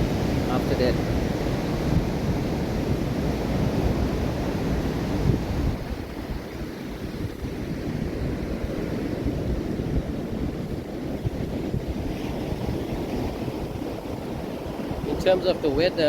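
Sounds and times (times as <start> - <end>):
ocean surf washing onto beach: 0.0 - 16.0
wind rumble on microphone: 0.0 - 16.0.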